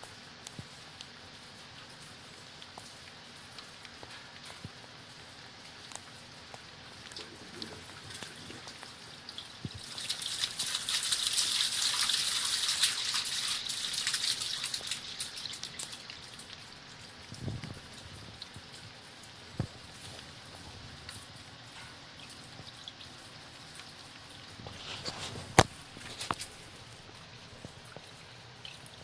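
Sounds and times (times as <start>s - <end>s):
water splashing and dripping: 0.5s - 29.0s.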